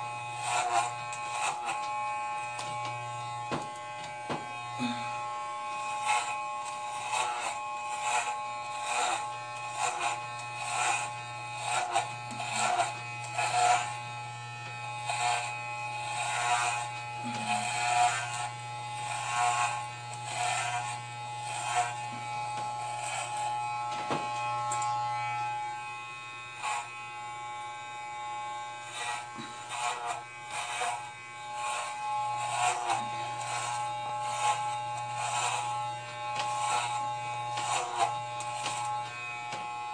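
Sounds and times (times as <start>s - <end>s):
clippers rasping through hair: 0.0s - 39.9s
electric hair clippers buzzing: 0.0s - 39.9s.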